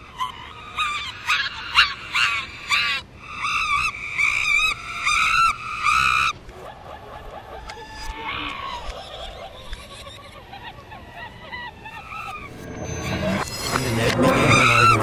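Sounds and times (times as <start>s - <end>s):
reversed chimpanzee calls: 0.0s - 15.0s.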